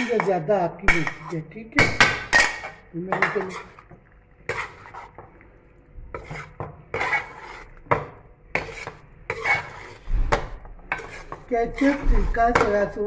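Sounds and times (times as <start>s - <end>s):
metal spoon scraping a pot: 0.0s - 5.3s, 6.1s - 13.0s.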